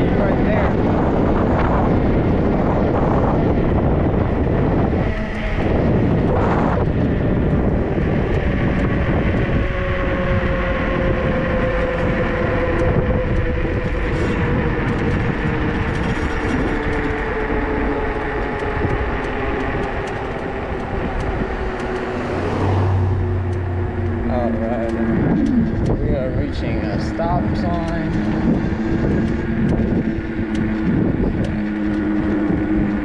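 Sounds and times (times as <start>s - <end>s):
electric motor whining: 0.0s - 33.0s
road noise: 0.0s - 33.0s
wind noise: 0.0s - 33.0s.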